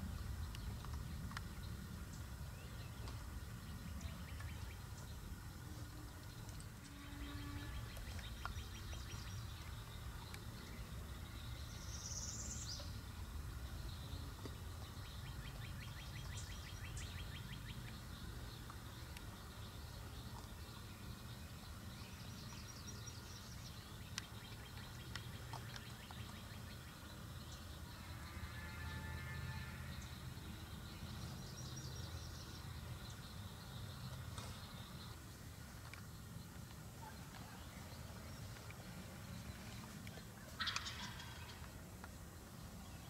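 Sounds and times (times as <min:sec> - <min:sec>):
songbird chirps: 0:00.0 - 0:43.0.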